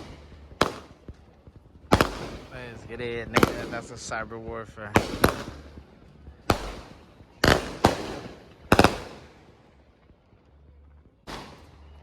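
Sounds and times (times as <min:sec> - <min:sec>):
firework bangs: 0:00.0 - 0:10.4, 0:11.1 - 0:12.0.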